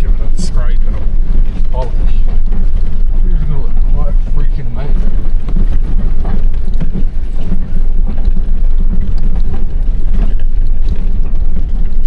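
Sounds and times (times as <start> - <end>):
vehicle engine running low: 0.0 - 12.0.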